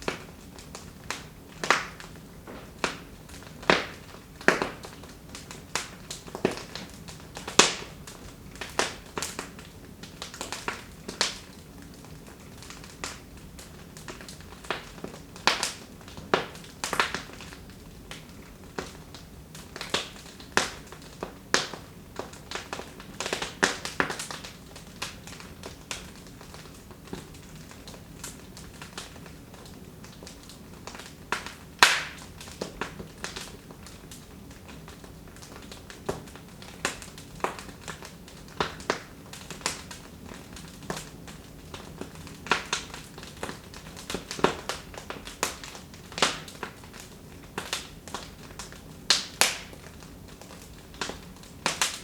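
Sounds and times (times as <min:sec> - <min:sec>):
low burning hiss: 0:00.0 - 0:52.0
wood fire crackling: 0:00.0 - 0:52.0.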